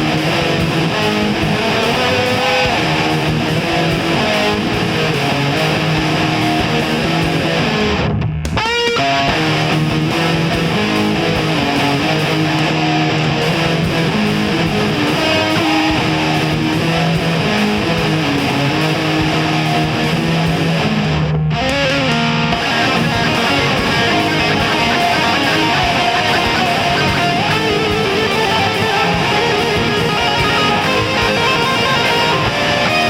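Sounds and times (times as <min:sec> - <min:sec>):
nu-metal electric guitars: 0:00.0 - 0:33.0.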